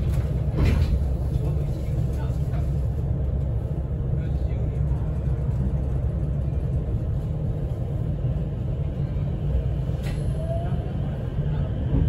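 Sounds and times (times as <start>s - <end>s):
train interior low rumble: 0.0s - 12.0s.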